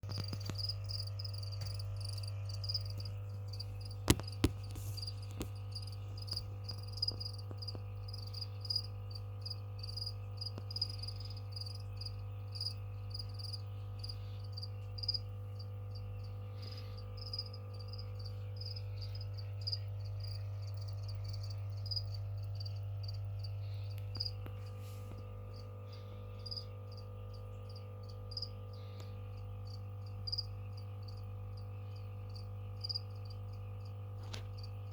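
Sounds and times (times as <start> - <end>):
low electrical hum: 0.0 - 34.9
cricket chirping: 0.1 - 34.9.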